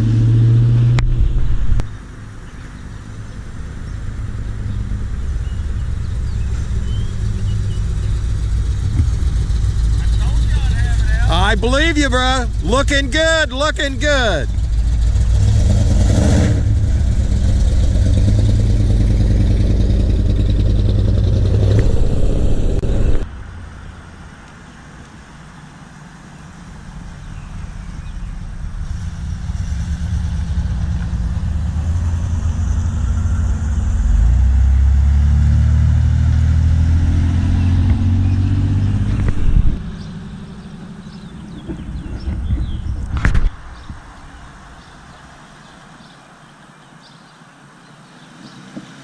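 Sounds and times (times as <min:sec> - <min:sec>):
loud car engine running: 0:00.0 - 0:24.3, 0:25.2 - 0:44.4
car engine approaching: 0:00.0 - 0:49.0.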